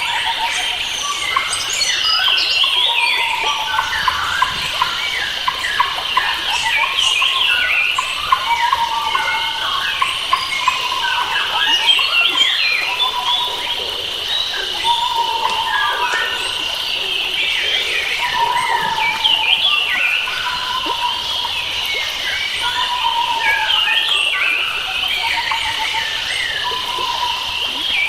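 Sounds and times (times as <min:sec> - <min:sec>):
birds chirping and singing: 0:00.5 - 0:28.0.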